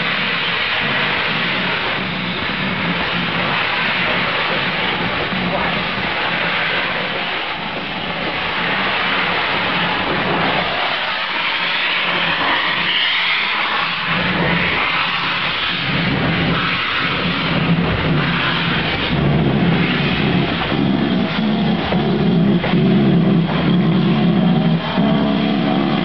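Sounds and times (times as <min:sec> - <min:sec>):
low pulsing locomotive beats: 0:00.0 - 0:26.0
steam hissing: 0:00.0 - 0:26.0.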